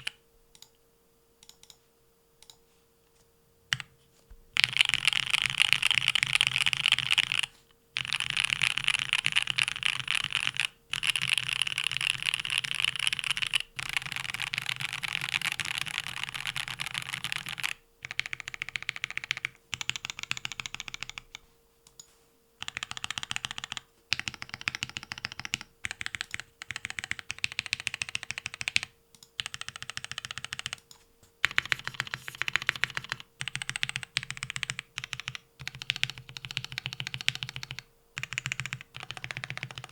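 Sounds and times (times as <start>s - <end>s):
mechanical keyboard typing: 0.0s - 0.7s, 4.6s - 21.4s, 22.6s - 39.9s.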